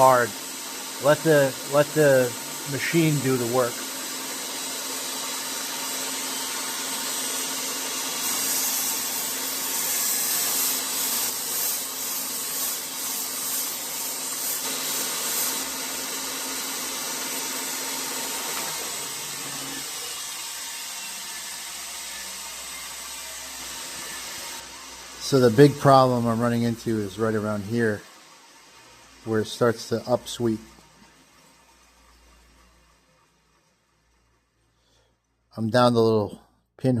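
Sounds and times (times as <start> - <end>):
metal grinding on sanding belt: 0.0 - 34.3
belt sander running: 0.0 - 34.7.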